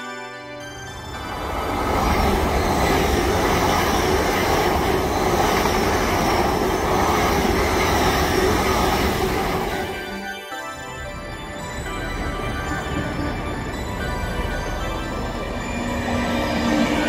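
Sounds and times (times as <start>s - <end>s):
express train passing: 0.6s - 17.0s.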